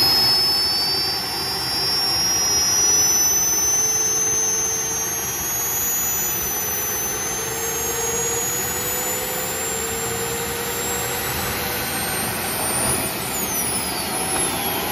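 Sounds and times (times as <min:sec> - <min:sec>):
model jet turbines running: 0:00.0 - 0:14.9.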